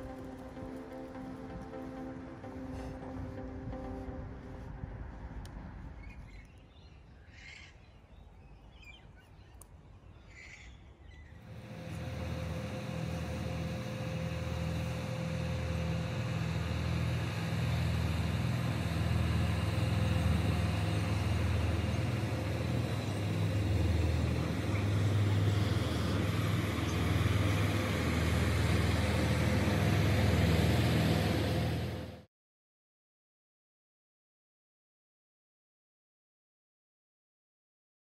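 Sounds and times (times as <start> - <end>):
ferry engines droning: 0.0 - 32.3.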